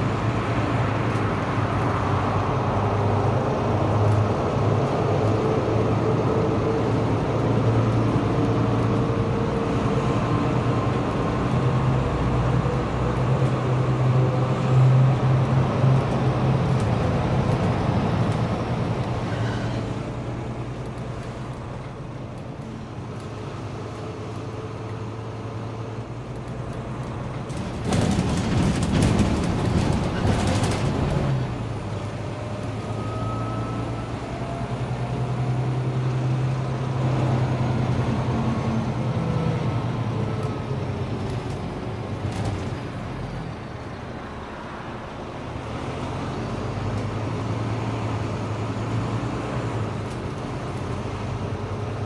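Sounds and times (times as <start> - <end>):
bus engine humming: 0.0 - 52.0
road noise: 0.0 - 52.0.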